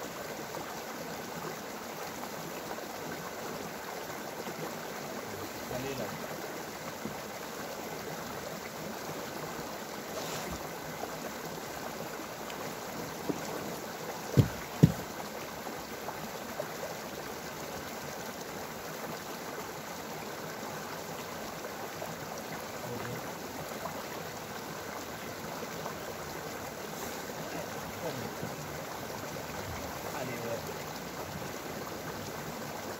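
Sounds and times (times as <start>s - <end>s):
mountain stream rushing: 0.0s - 32.9s.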